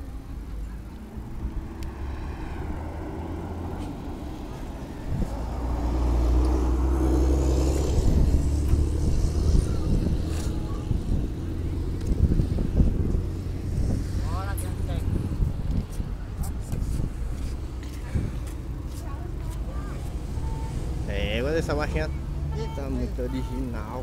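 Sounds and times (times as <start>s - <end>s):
traffic rumble: 0.0s - 24.0s
wind: 0.0s - 24.0s.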